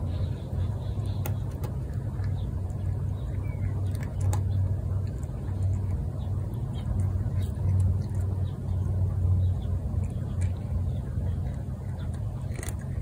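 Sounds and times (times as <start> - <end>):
cat crunching dry kibble: 0.0 - 13.0
low rumbling hum: 0.0 - 13.0.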